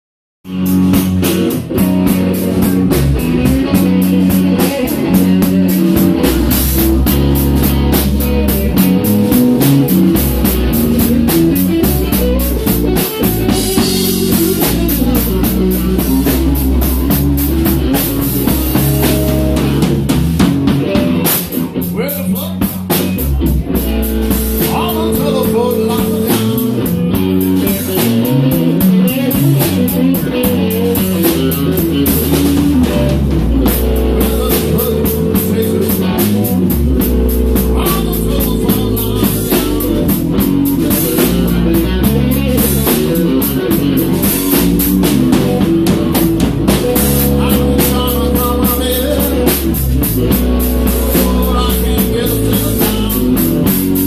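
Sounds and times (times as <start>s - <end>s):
live blues rock band: 0.4s - 54.0s.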